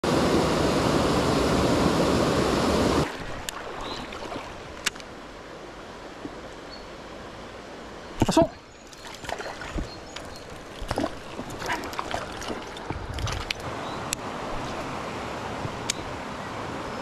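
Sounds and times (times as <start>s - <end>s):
small waterfall rushing: 0.0s - 8.6s, 9.4s - 17.0s
shallow water rippling: 1.2s - 16.4s.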